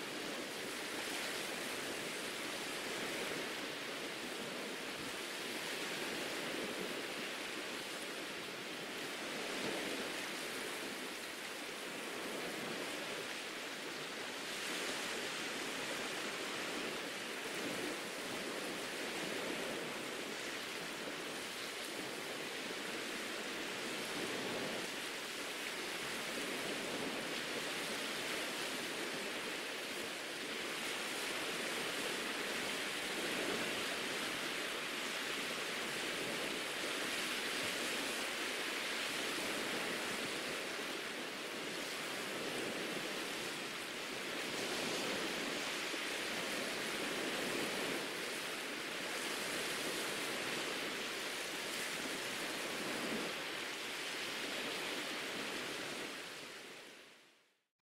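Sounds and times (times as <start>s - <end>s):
small waves washing on sand: 0.0s - 57.3s.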